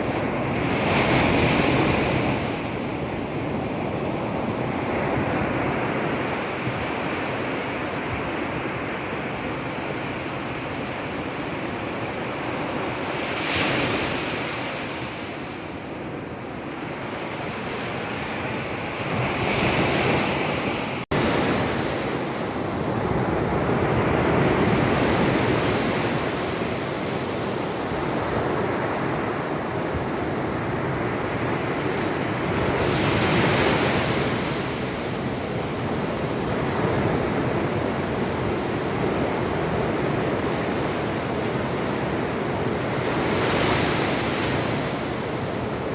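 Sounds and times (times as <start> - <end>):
surf breaking on a beach: 0.0 - 45.9
wind on the microphone: 0.0 - 45.9.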